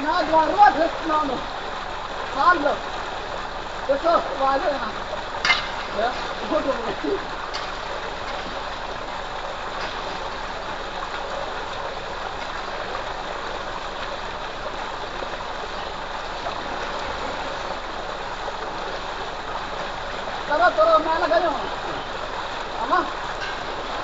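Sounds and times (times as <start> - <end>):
water pouring into concrete tank: 0.0 - 24.0.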